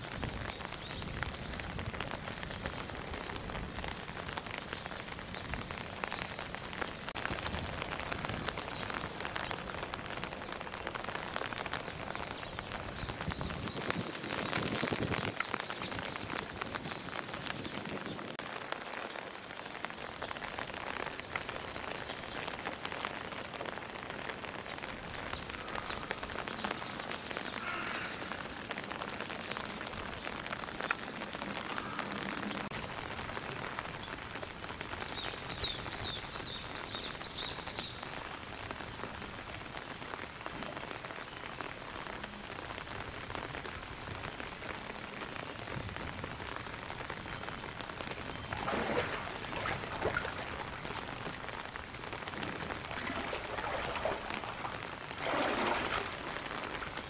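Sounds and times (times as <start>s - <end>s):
rain pattering on the ground: 0.0s - 57.0s.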